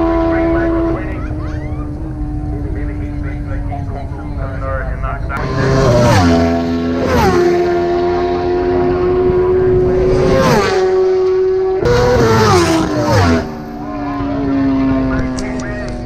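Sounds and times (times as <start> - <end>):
racing motorcycles passing by: 0.0 - 16.0.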